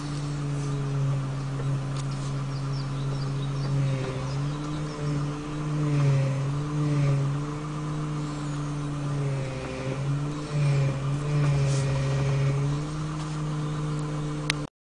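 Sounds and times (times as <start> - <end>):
power steering rack whining hum: 0.0 - 14.7.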